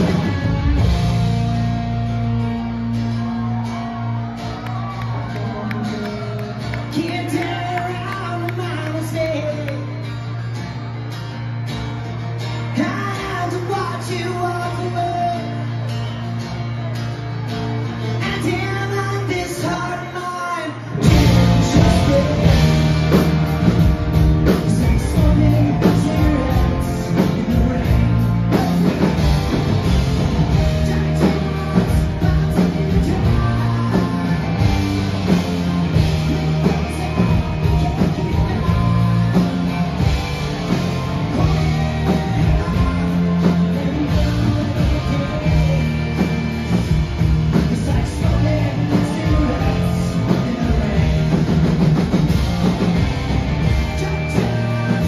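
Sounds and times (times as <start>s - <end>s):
country-rock band playing: 0.0s - 55.0s.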